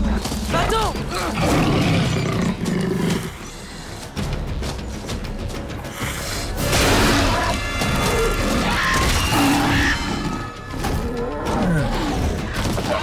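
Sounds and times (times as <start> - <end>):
dramatic orchestral music: 0.0 - 13.0.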